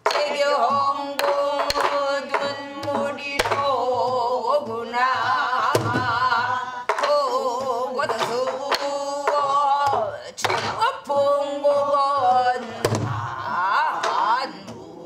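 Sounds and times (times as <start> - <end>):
woman singing with wavering voice: 0.0 - 15.0.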